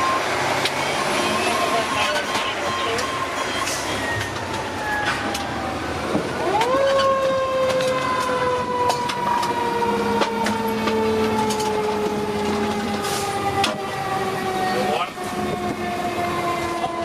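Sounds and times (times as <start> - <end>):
mechanical siren: 0.0 - 17.0.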